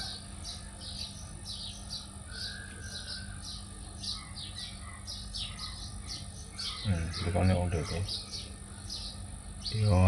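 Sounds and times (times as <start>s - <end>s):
bird chirping: 0.0s - 10.0s
low steady hum: 0.0s - 10.0s.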